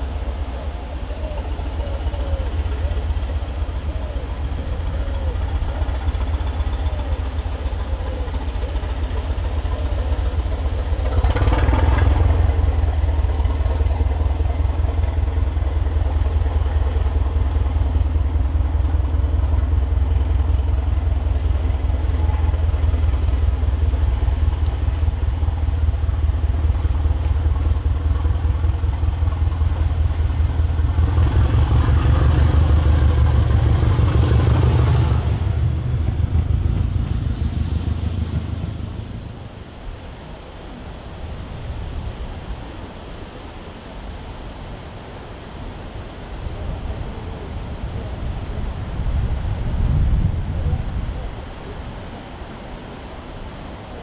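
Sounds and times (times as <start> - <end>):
diesel train engine throbbing: 0.0 - 43.5, 44.3 - 54.0.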